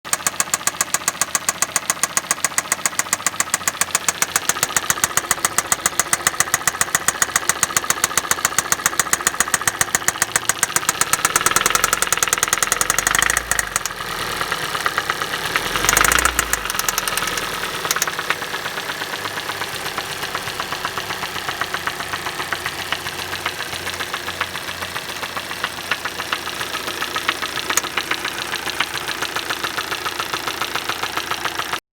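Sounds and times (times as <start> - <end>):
car engine knocking: 0.1 - 31.8
engine revving: 0.1 - 31.8.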